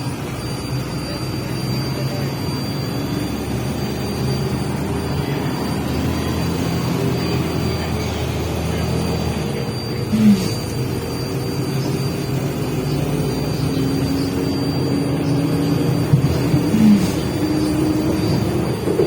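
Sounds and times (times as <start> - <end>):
bus engine and drivetrain hum: 0.0 - 19.0
loud squeak: 0.4 - 19.0.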